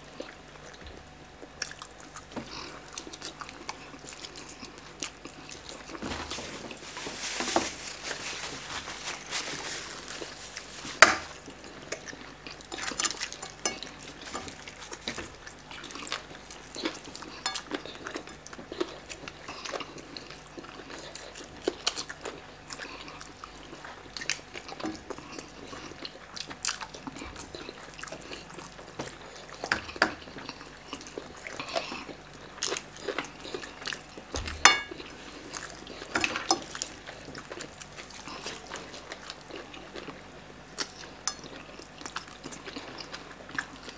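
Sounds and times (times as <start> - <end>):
people chewing: 0.0 - 43.9.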